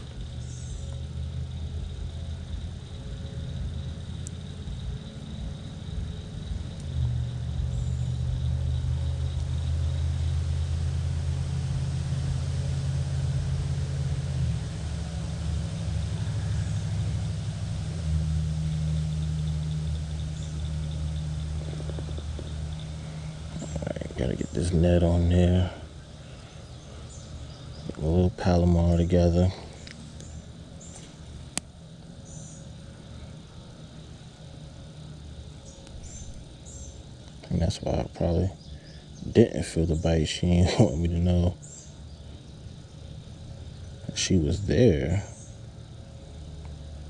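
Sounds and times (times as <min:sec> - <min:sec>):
motor humming with faint whine: 0:00.0 - 0:47.0.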